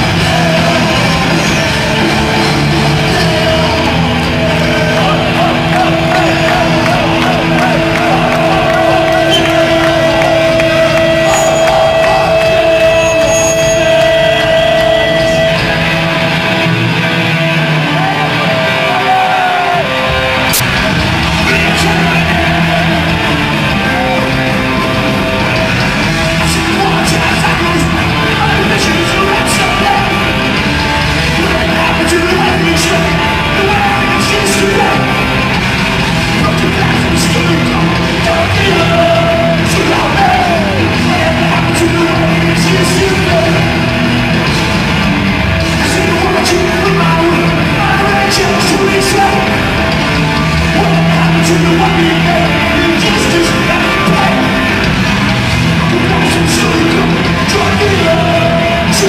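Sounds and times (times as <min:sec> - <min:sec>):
punk band playing live: 0:00.0 - 0:59.0.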